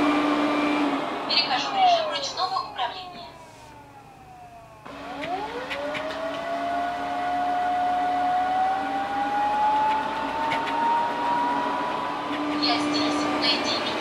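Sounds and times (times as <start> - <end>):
steady hum: 0.0 - 14.0
vacuum fan whine rising in pitch: 0.0 - 14.0.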